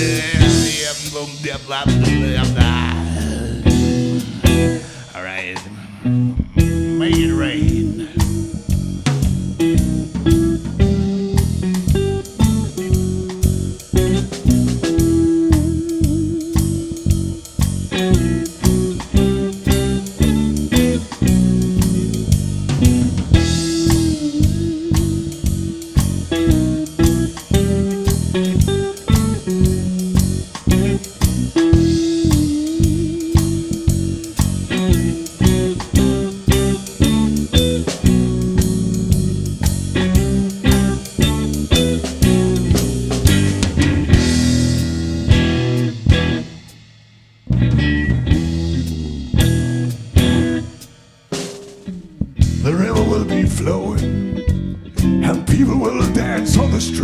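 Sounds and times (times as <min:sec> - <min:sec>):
blues band playing: 0:00.0 - 0:57.0.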